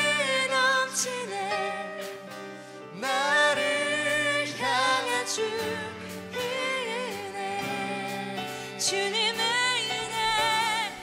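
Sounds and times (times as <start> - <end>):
woman singing into microphone: 0.0 - 2.2, 3.0 - 11.0.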